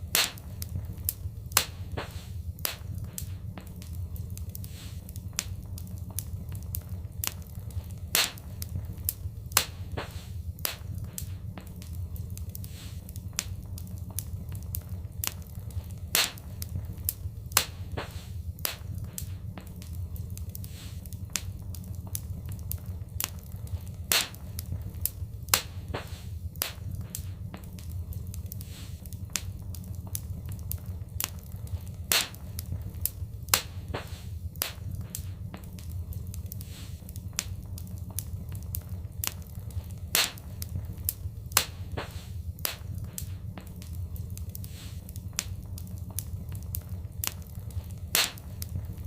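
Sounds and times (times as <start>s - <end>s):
fireplace fire crackling: 0.0s - 49.0s.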